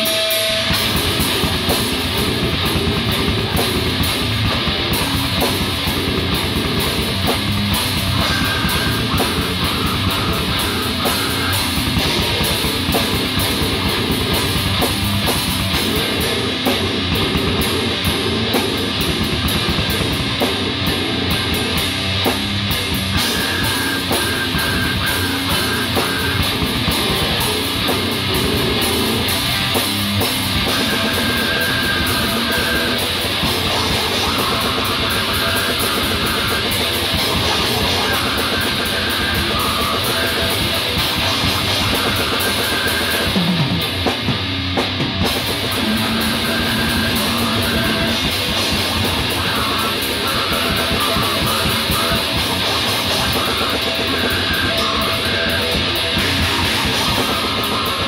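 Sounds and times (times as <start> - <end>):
drum kit with cymbals: 0.0 - 58.0
loud electric guitar: 0.0 - 58.0.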